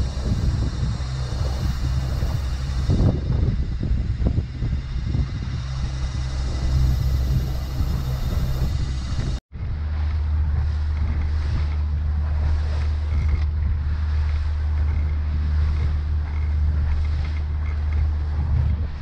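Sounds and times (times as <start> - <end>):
outboard motor droning: 0.0 - 19.0
wind on microphone: 0.0 - 19.0.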